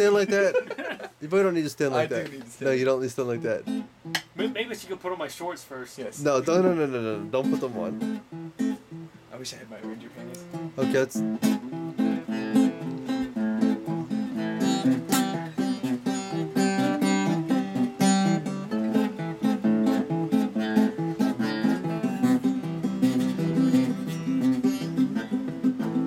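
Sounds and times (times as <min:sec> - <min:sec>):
acoustic guitar picking: 0:03.2 - 0:05.2, 0:06.2 - 0:26.0.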